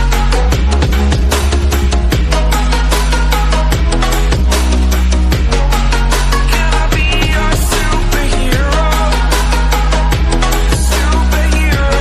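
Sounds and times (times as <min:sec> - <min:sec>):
electronic rock music: 0:00.0 - 0:12.0.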